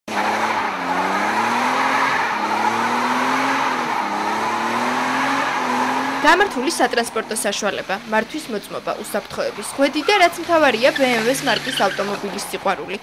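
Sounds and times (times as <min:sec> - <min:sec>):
car engine revving: 0:00.1 - 0:13.0
tyre squealing: 0:00.2 - 0:07.7, 0:09.6 - 0:12.6.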